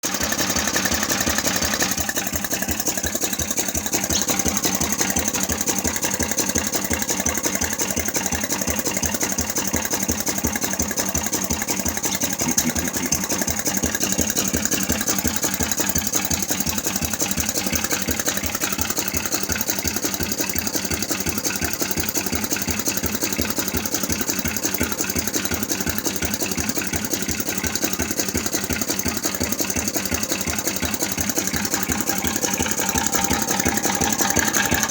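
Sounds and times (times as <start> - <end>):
vertical engine exhaust beats: 0.0 - 34.9.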